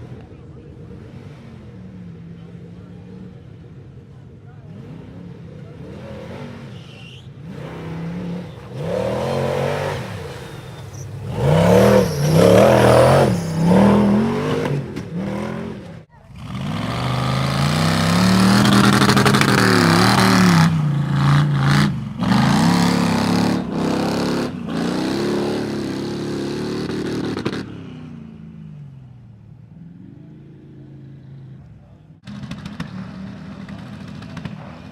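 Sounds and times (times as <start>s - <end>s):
truck engine revving hard: 4.5s - 28.4s, 29.7s - 34.9s.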